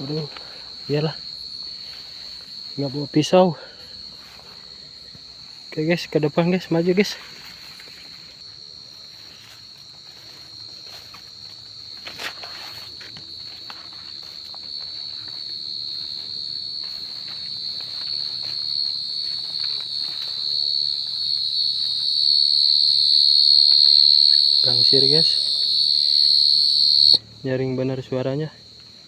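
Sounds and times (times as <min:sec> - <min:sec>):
faint rustling steps: 0:00.0 - 0:25.7
cricket shrill trill: 0:00.0 - 0:29.0.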